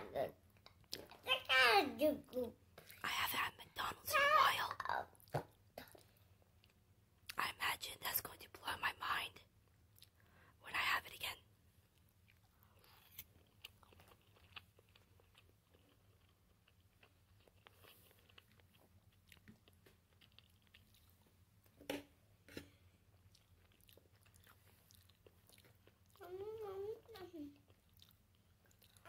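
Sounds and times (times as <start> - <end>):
faint chewing: 0.4 - 1.3, 2.2 - 3.9, 4.6 - 8.3, 9.6 - 10.4, 11.8 - 29.0.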